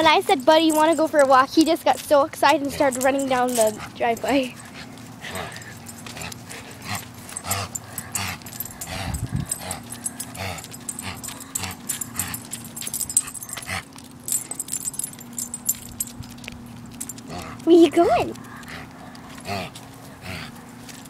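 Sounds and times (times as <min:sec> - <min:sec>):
dog sounds: 0:00.0 - 0:21.0
steady low hum: 0:00.0 - 0:21.0.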